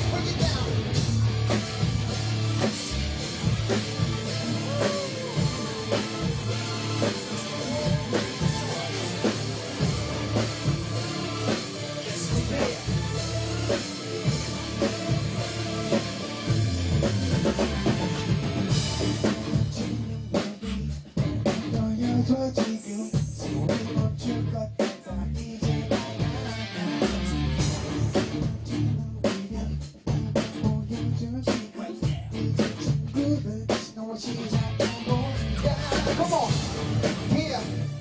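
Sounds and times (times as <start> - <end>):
drum kit kick and cymbals: 0.0 - 38.0
rock band playing: 0.0 - 38.0.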